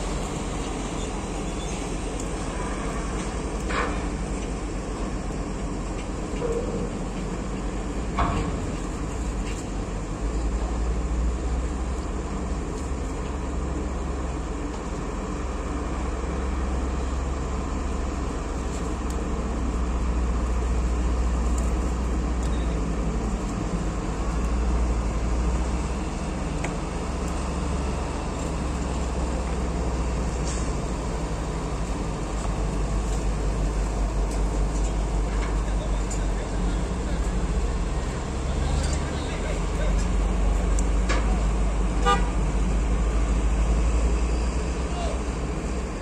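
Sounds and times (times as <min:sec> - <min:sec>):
truck diesel engines rumbling: 0:00.0 - 0:46.0.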